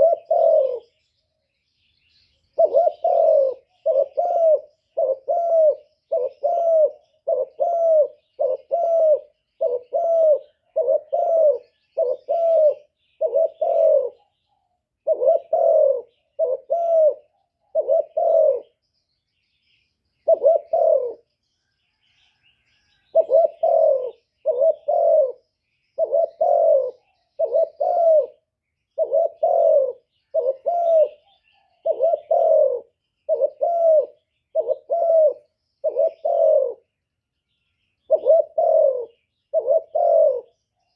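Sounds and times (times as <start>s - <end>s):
dove cooing: 0.0s - 1.2s, 1.9s - 18.9s, 20.2s - 37.0s, 38.0s - 40.9s
small birds chirping: 0.0s - 40.9s.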